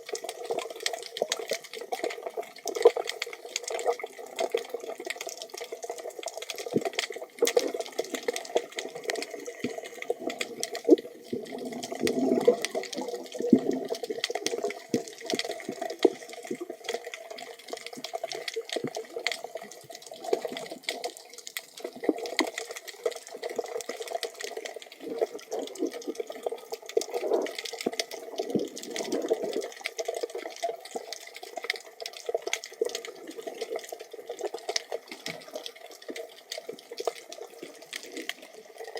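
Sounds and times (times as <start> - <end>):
sharp clicks and crackles: 0.0 - 38.9
underwater moving water: 0.0 - 38.9.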